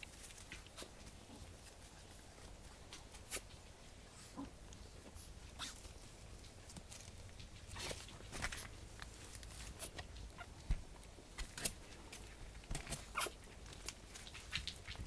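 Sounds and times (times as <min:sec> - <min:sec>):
puppy paws clicking and scratching: 0:00.0 - 0:15.0.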